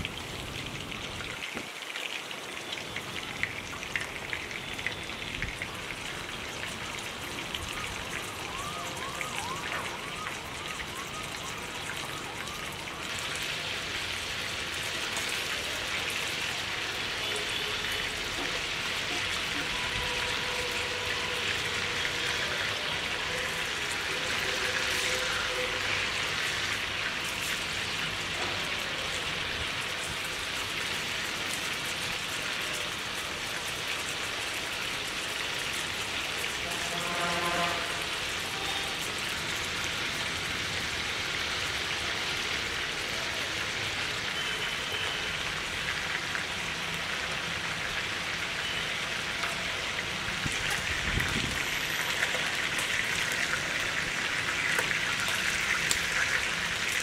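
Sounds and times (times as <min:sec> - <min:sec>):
food sizzling in hot oil: 0:02.6 - 0:57.0.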